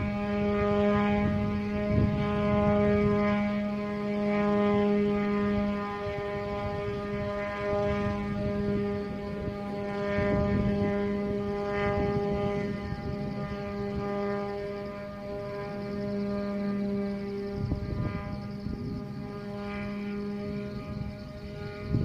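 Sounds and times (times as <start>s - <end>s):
helicopter droning: 0.0s - 22.0s.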